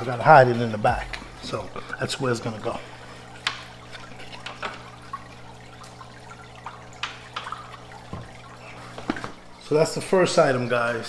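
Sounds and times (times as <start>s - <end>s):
aquarium water bubbling: 0.0s - 11.0s
steady low hum: 0.0s - 11.0s.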